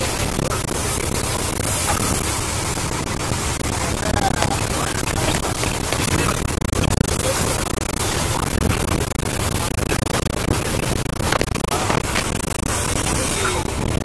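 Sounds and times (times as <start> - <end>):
bus engine and road noise: 0.0 - 14.0
bus rattling: 0.0 - 14.0.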